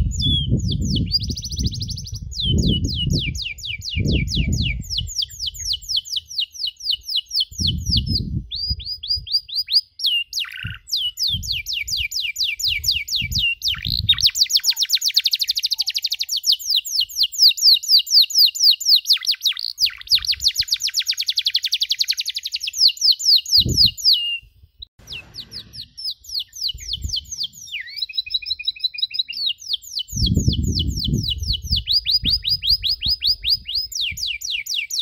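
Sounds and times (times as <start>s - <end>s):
canary singing: 0.0s - 35.0s.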